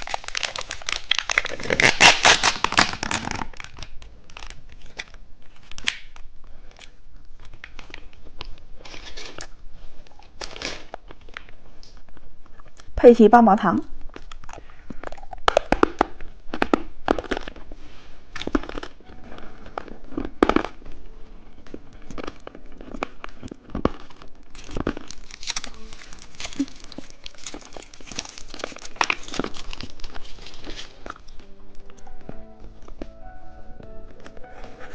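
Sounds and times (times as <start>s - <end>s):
plastic wrapper crinkling: 0.0s - 12.9s, 14.0s - 34.9s.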